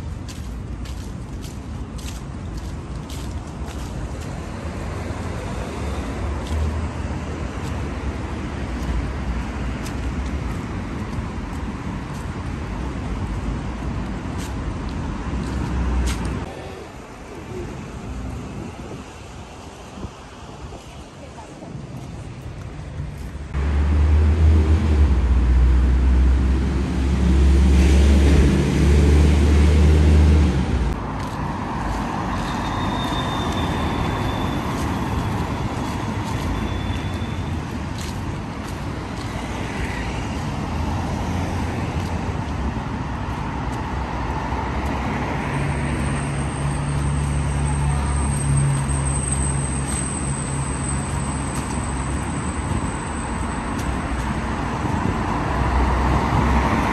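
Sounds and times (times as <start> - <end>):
passing road traffic: 0.0 - 56.9.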